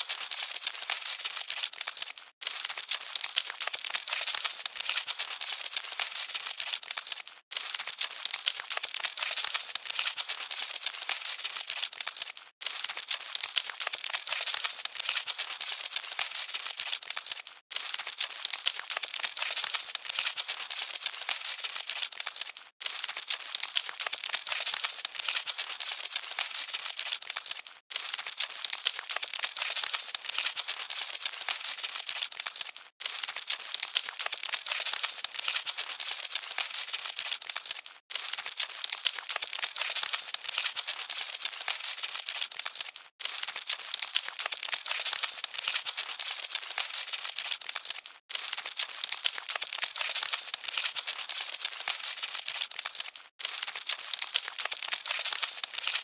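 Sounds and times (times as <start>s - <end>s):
crackly rustling and scratching: 0.0s - 56.0s.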